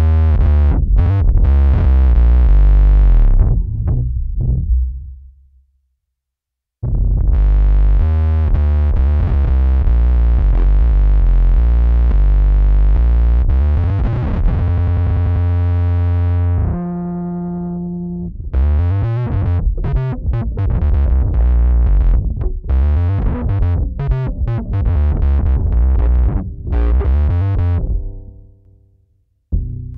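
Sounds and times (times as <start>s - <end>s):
electric bass with octave effect: 0.0s - 5.6s, 6.8s - 29.9s.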